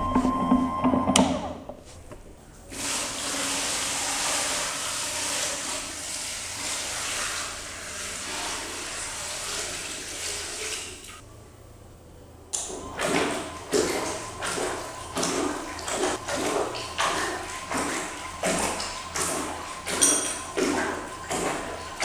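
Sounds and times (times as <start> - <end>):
washing machine churning water: 2.6 - 11.2, 12.6 - 22.0
water pouring into plastic tub: 2.7 - 11.2, 12.8 - 22.0.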